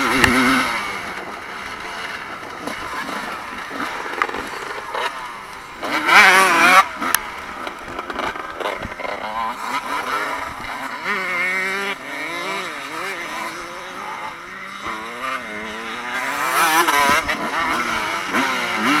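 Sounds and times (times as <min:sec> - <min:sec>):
motocross bikes racing past: 0:00.0 - 0:19.0.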